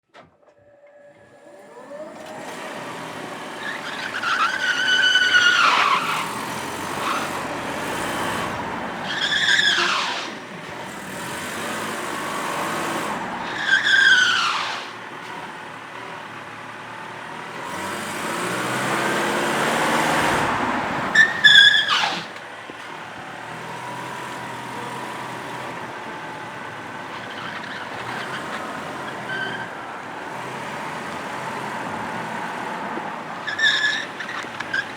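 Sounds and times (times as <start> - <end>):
tyres squealing on concrete: 2.0 - 15.4, 17.7 - 34.9.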